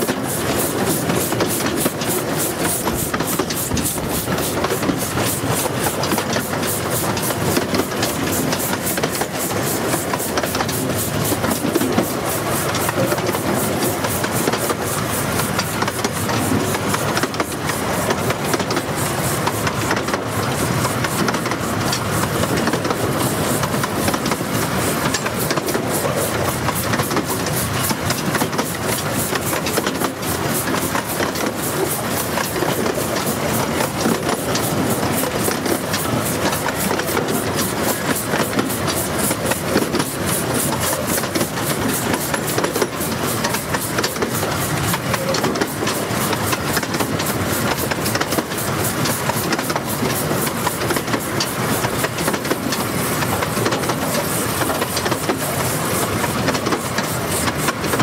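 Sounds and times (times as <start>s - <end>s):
carriage running noise: 0.0s - 58.0s
train wheels clacking over rail joints: 0.0s - 58.0s.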